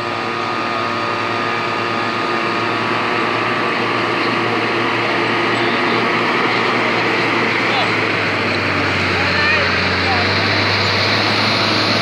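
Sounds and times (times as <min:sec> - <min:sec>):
pump engine droning: 0:00.0 - 0:12.0.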